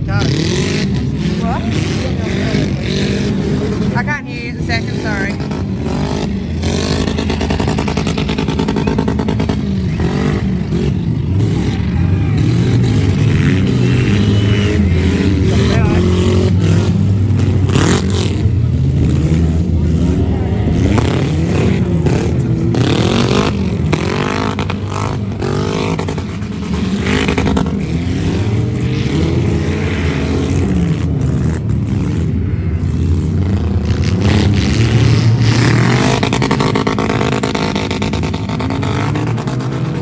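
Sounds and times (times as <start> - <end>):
vehicle engines revving: 0.0 - 40.0.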